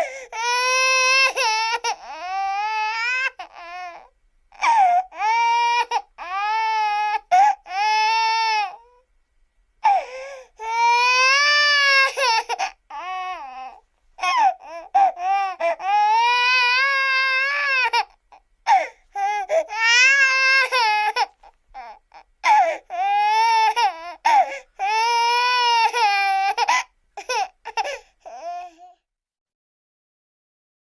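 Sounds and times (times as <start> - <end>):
baby crying: 0.0 - 9.0, 9.8 - 29.0
baby gasping and sobbing: 0.0 - 9.0, 9.8 - 29.0.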